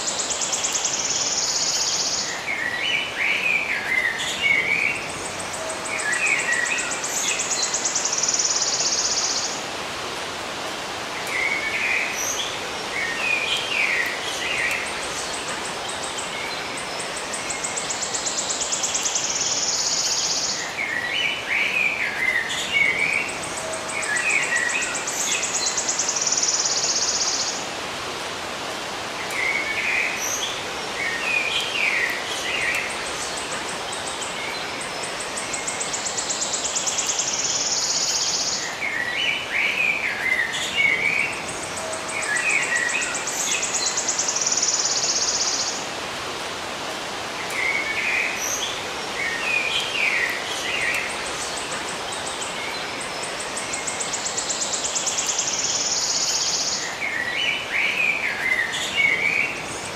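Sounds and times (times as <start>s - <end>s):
songbirds chirping: 0.0s - 59.9s
steady hiss: 0.0s - 59.9s.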